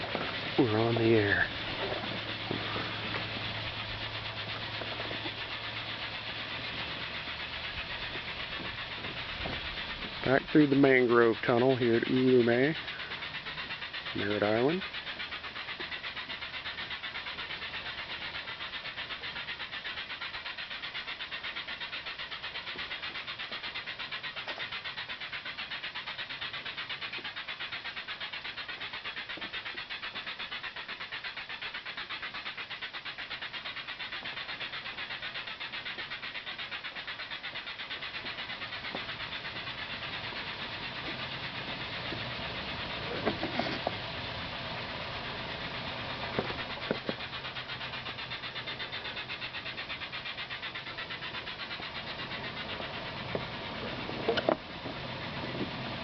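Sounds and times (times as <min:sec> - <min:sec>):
insects chorus pulsing hiss: 0:00.0 - 0:56.0.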